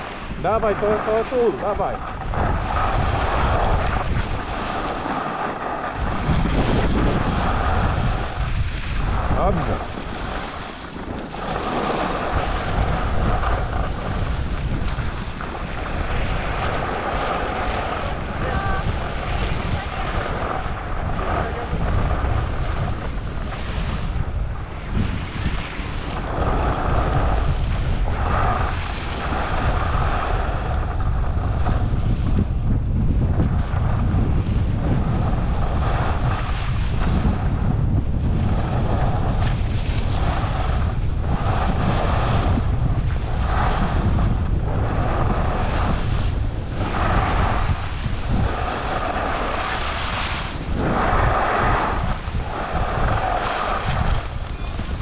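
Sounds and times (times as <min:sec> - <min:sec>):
skis scraping on snow: 0:00.0 - 0:32.5, 0:33.2 - 0:55.0
wind buffeting microphone: 0:00.0 - 0:55.0.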